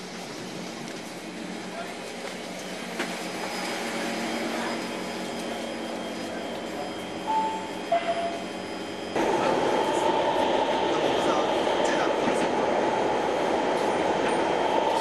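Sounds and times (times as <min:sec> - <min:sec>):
subway carriage running noise: 0:00.0 - 0:15.0.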